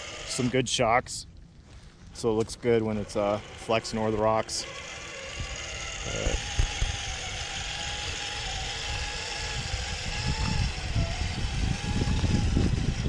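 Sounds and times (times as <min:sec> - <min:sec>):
electric motor whine: 0:00.0 - 0:00.6, 0:02.6 - 0:13.0.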